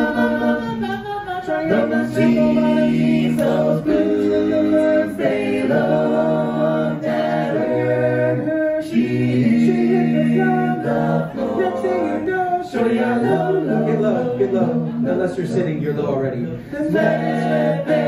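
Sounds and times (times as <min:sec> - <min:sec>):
a cappella group singing harmony: 0:00.0 - 0:15.6, 0:16.5 - 0:18.0.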